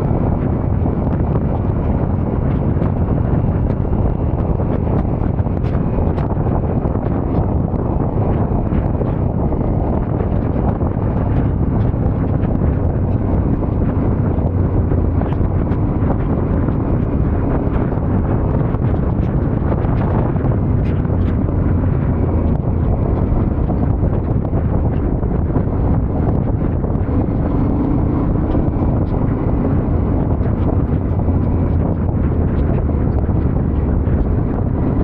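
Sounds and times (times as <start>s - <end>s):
motorcycle engine running: 0.0s - 35.0s
wind buffeting microphone: 0.0s - 35.0s.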